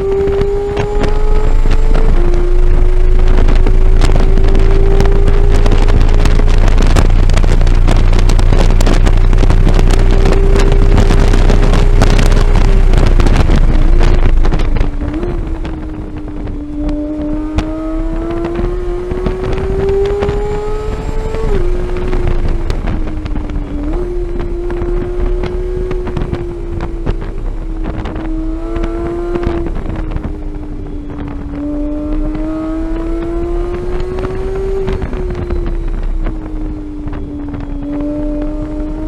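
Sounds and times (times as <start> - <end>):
sports car engine revving: 0.0 - 39.0
wind buffeting microphone: 0.0 - 39.0.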